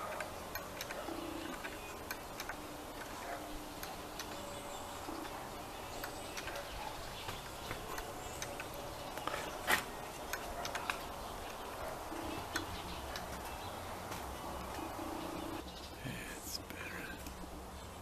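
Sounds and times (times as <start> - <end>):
wooden whirligig clicking: 0.0 - 15.6.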